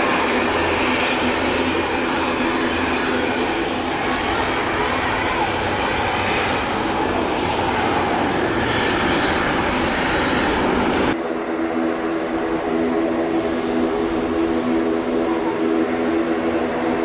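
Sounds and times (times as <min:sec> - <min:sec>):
jet engines droning at low power: 0:00.0 - 0:17.0
jet engines roaring: 0:00.0 - 0:17.0.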